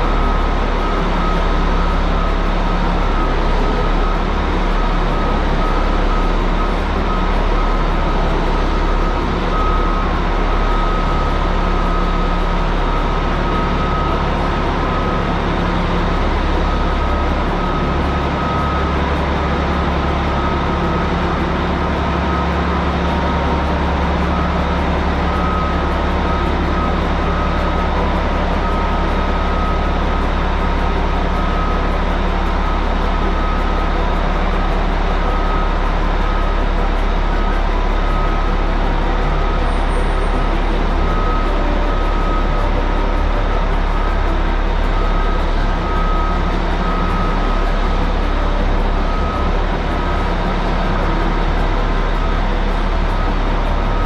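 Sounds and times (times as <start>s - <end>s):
diesel engines running: 0.0s - 54.0s
high-pitched whine: 0.0s - 54.0s.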